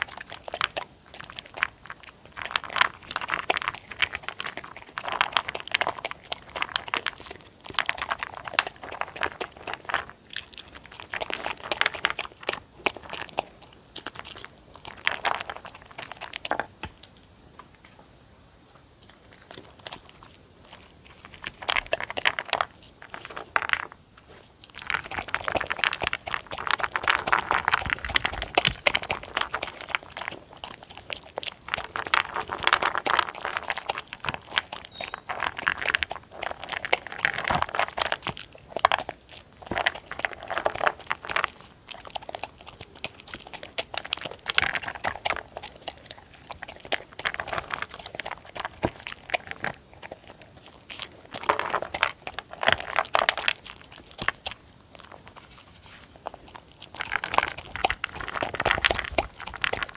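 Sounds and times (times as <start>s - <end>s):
dog crunching and chewing treats: 0.0s - 17.2s, 19.0s - 59.9s.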